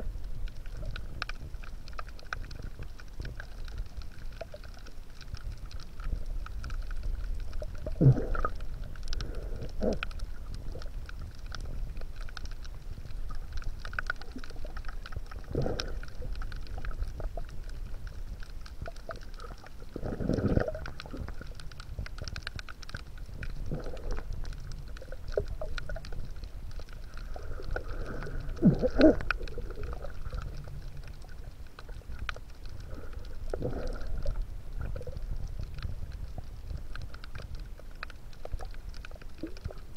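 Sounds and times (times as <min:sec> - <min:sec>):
faint crackle: 0:00.0 - 0:39.9
underwater rumble of moving water: 0:00.0 - 0:39.9.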